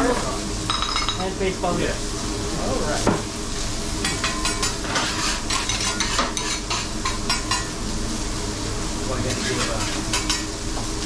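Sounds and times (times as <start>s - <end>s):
fish sizzling on a griddle: 0.0s - 11.0s.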